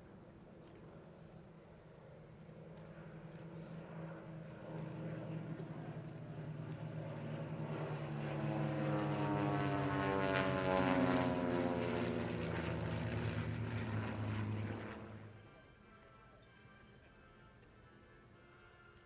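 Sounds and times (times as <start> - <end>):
propeller plane flying past: 0.0 - 16.5.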